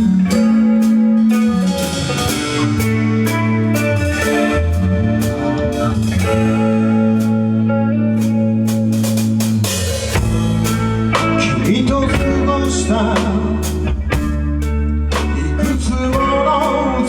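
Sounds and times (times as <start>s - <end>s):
electric guitar chords: 0.0s - 17.0s
live rock band playing: 0.0s - 17.0s.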